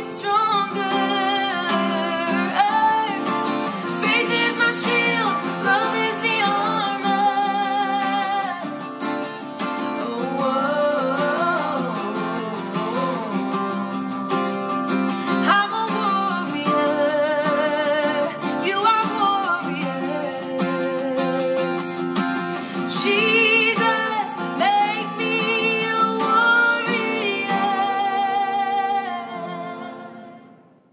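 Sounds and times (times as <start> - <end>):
woman singing with vibrato: 0.0 - 8.8, 9.9 - 14.1, 15.2 - 22.0, 22.6 - 30.8
strummed acoustic guitar: 0.0 - 30.9.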